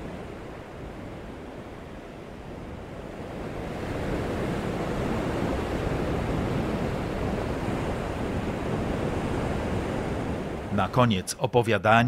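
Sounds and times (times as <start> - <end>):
sea surf washing onto shore: 0.0 - 11.4.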